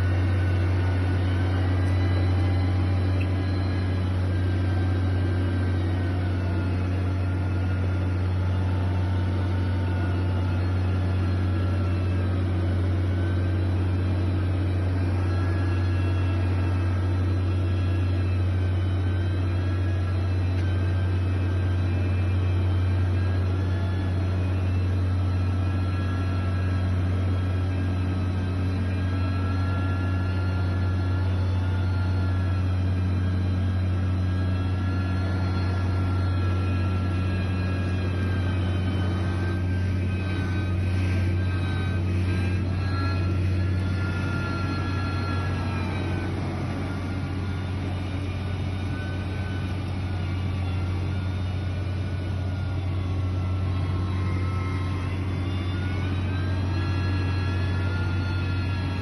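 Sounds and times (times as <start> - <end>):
heavy machinery engine drone: 0.0 - 59.0.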